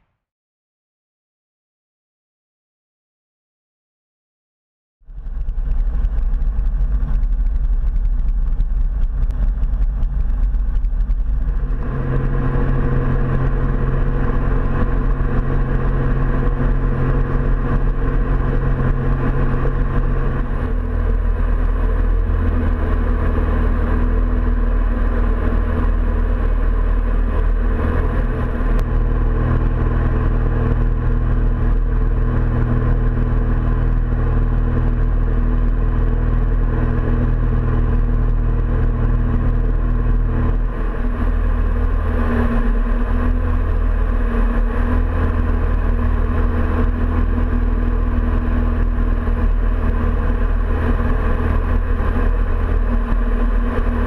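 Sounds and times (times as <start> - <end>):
light aircraft engine drone: 5.1 - 54.0.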